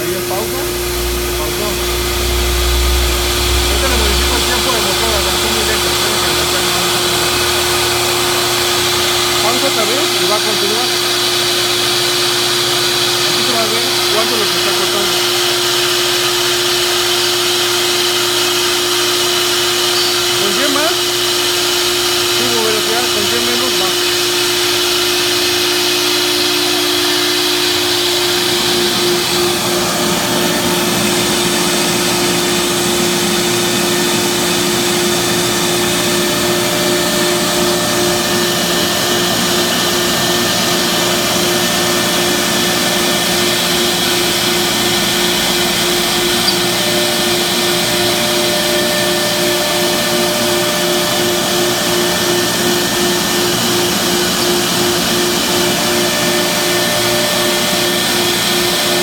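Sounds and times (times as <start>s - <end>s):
machine spindle humming: 0.0s - 59.0s.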